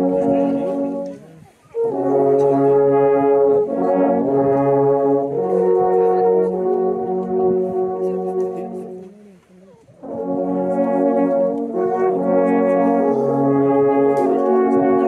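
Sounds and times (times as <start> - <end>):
alphorns playing sustained chords: 0.0 - 9.2, 10.0 - 15.0.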